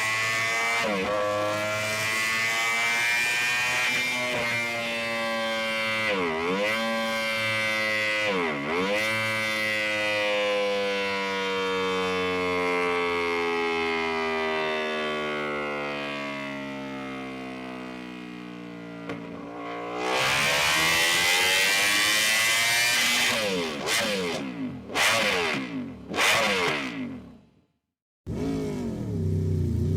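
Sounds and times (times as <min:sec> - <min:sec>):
motorcycle engine at high revs: 0:00.0 - 0:27.5, 0:28.3 - 0:29.9.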